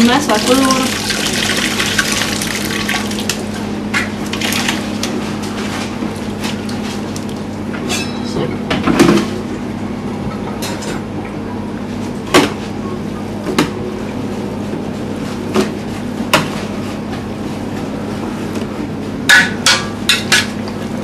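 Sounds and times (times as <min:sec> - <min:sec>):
kitchen machinery humming: 0:00.0 - 0:21.0.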